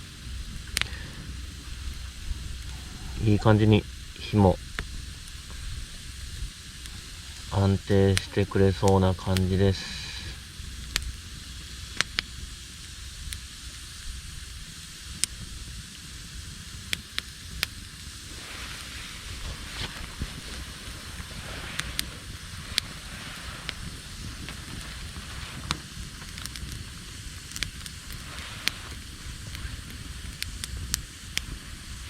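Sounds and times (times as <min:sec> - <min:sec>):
campfire crackles and pops: 0:00.0 - 0:32.0
rush of flame: 0:00.0 - 0:32.0.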